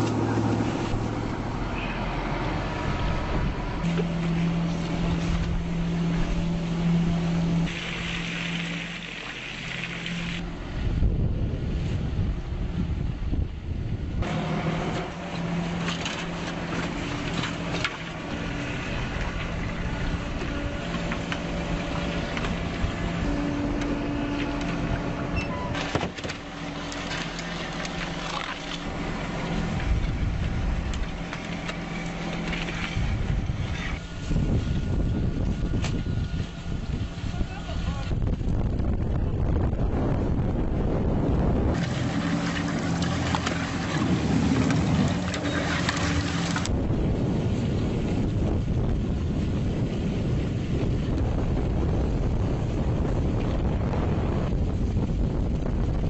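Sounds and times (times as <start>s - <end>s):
boat motor hum: 0.0s - 56.0s
wind: 0.0s - 56.0s.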